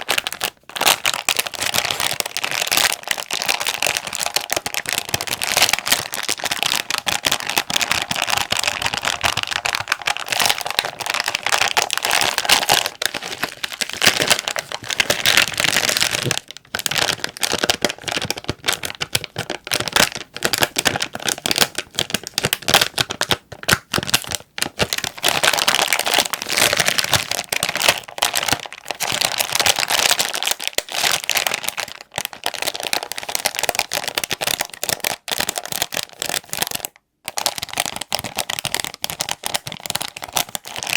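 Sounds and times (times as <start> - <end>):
plastic packet crinkling: 0.0 - 40.9.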